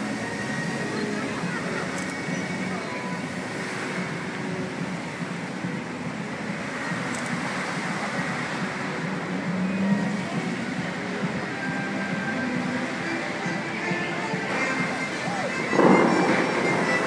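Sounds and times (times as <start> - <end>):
fountain water jets splashing: 0.0 - 17.0.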